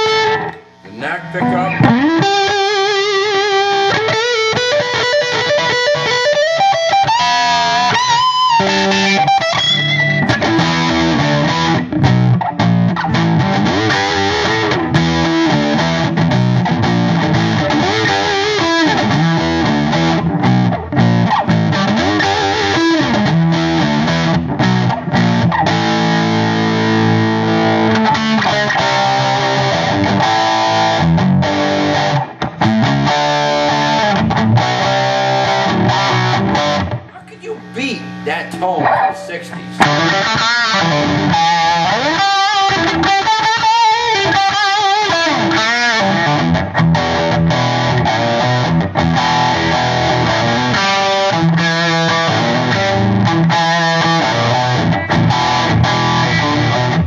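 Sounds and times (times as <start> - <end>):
electric guitar playing: 0.0 - 57.0.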